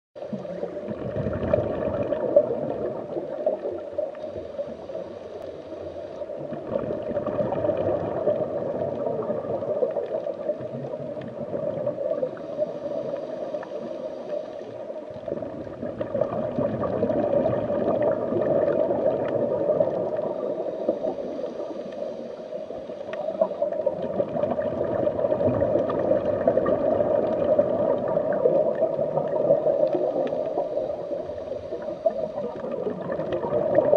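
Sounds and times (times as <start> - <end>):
aquarium air bubbling: 0.4 - 3.9, 6.4 - 13.9, 15.2 - 21.8, 23.2 - 33.9.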